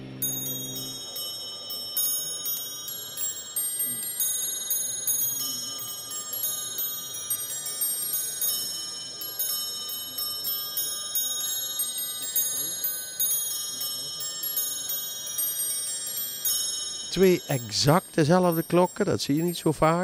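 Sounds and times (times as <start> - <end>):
clock bells chiming a tune: 0.0 - 20.0.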